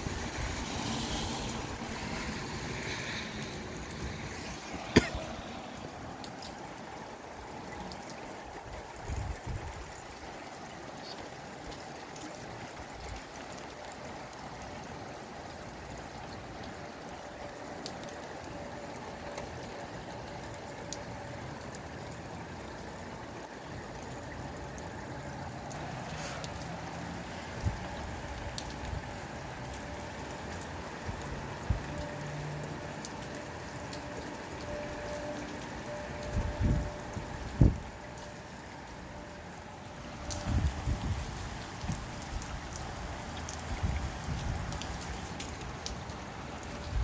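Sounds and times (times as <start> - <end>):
steady rain: 0.0 - 47.0
water dripping: 0.0 - 47.0.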